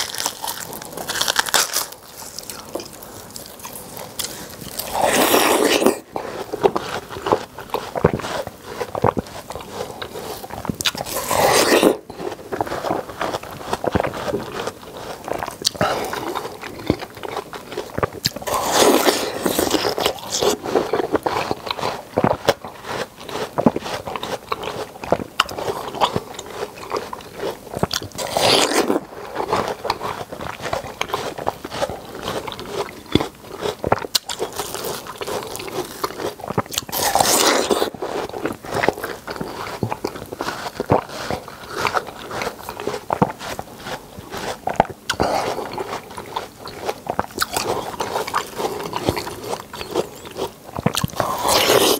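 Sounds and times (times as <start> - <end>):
chewing watermelon: 0.0 - 51.9.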